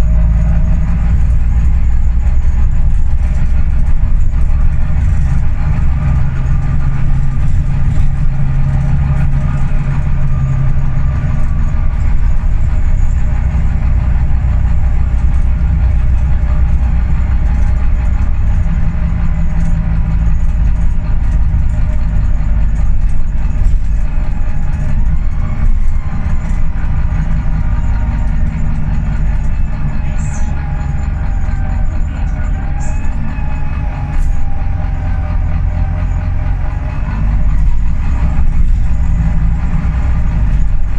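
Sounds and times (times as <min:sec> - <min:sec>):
bus engine droning: 0:00.0 - 0:40.9
faint whine sliding in pitch: 0:00.0 - 0:40.9.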